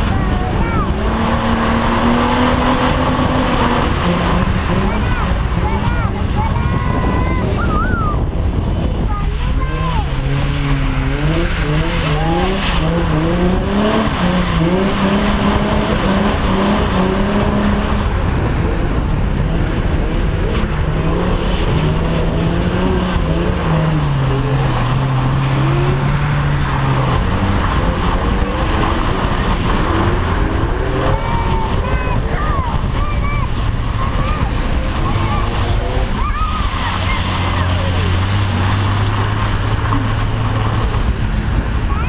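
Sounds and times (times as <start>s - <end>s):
car engine revving: 0.0s - 42.0s
steady rush of noise: 0.0s - 42.0s.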